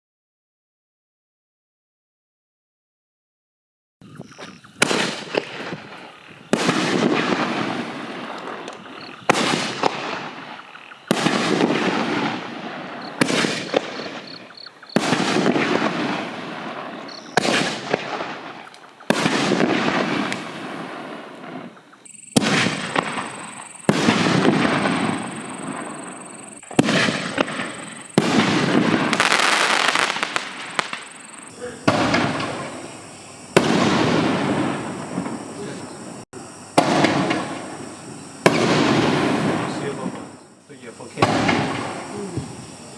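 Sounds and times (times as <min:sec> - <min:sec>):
firework bangs: 0:04.4 - 0:42.9
rumbling firework crackle: 0:04.5 - 0:42.9.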